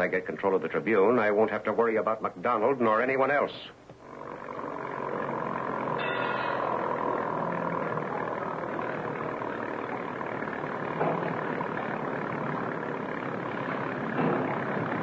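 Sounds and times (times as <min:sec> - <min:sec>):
motorboat engine running: 0:02.4 - 0:15.0.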